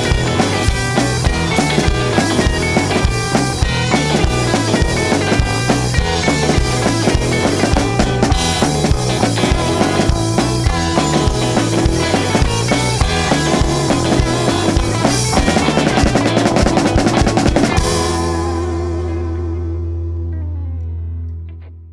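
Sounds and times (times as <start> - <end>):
rapid drum flurry: 0.0 - 19.0
rock band playing: 0.0 - 21.3.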